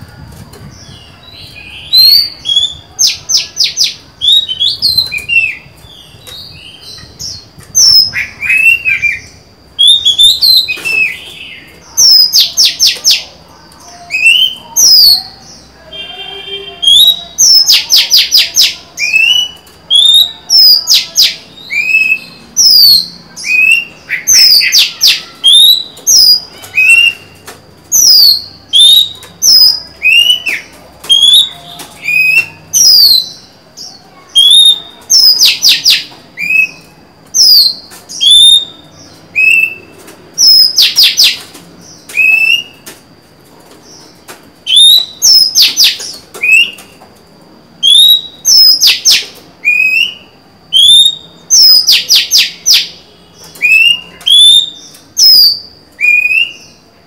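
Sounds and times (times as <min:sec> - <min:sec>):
bird singing whistled phrases: 0:00.9 - 0:13.3, 0:13.9 - 0:27.4, 0:28.0 - 0:33.6, 0:34.3 - 0:41.4, 0:42.0 - 0:42.8, 0:44.7 - 0:46.9, 0:47.8 - 0:56.8.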